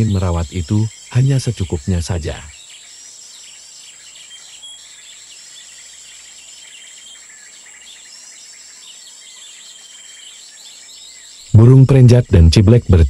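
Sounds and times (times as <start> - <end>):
high-pitched insect drone: 0.0 - 13.0
small birds chirping: 0.0 - 13.0.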